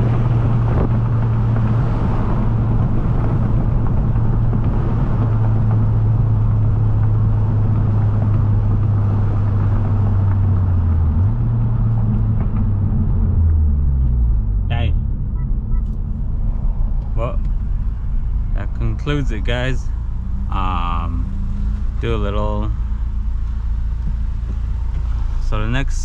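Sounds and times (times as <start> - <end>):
car engine droning: 0.0 - 26.0
road noise inside car: 0.0 - 26.0.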